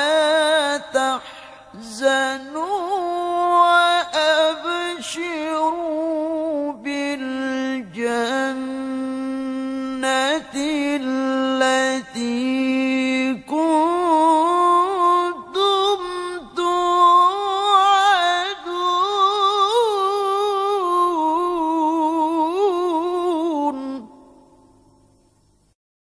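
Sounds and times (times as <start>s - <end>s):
man reciting melodically: 0.0s - 24.3s.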